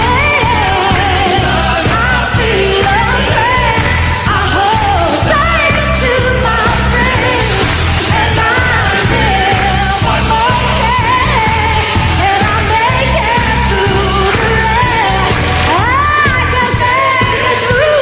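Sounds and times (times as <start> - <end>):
band with steady bass beat: 0.0 - 18.0.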